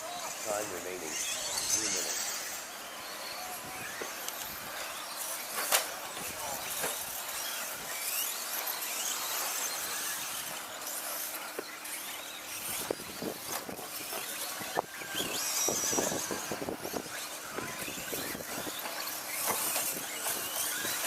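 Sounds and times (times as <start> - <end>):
toy trucks racing: 0.0 - 21.0
trucks landing with sharp clacks: 3.9 - 21.0.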